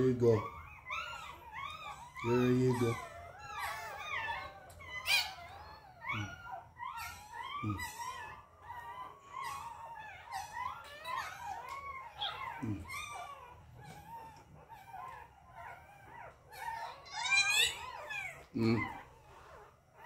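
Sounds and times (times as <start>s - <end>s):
puppy whining and squealing: 0.0s - 20.0s.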